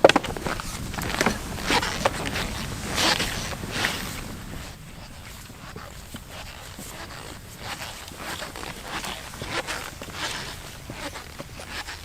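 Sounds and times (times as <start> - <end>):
skis swishing through snow: 0.0 - 12.0.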